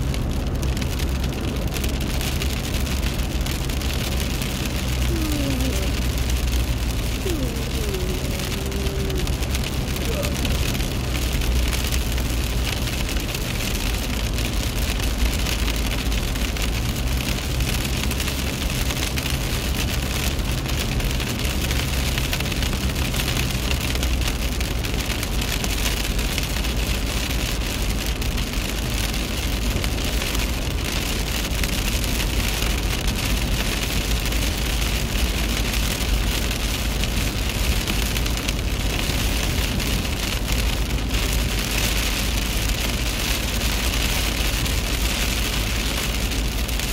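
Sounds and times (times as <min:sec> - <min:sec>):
car engine and tyres rumbling: 0:00.0 - 0:46.9
rain pattering on a car: 0:00.0 - 0:46.9.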